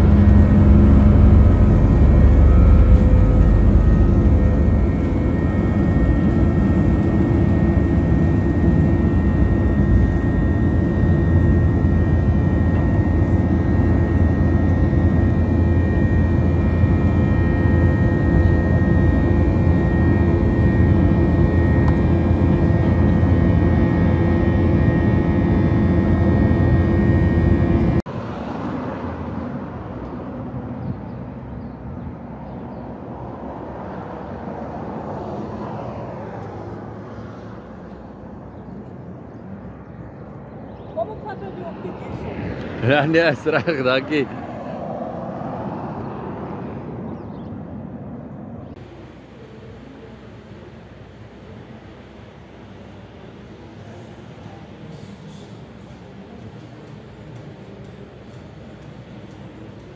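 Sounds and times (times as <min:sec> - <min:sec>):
jet engine rush: 0:00.0 - 0:59.9
outdoor street ambience: 0:00.0 - 0:59.9
steady high whine: 0:00.0 - 0:59.9.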